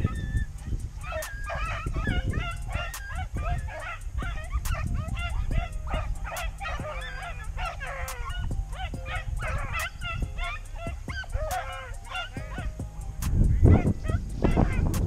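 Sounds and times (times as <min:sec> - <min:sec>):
hounds baying and yelping: 0:00.0 - 0:15.0.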